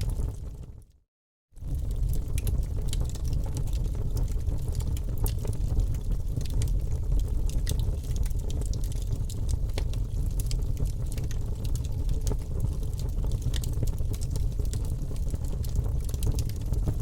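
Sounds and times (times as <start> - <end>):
low rumble of flames: 0.0 - 0.9, 1.6 - 17.0
fire crackling and popping: 0.1 - 0.8, 1.6 - 17.0.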